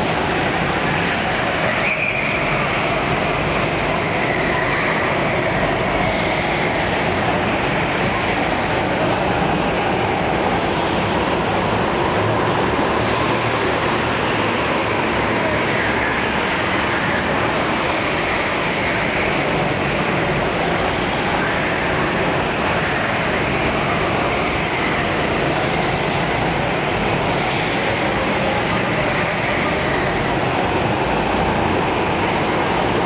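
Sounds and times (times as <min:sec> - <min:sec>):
go-kart engines buzzing: 0:00.0 - 0:33.0.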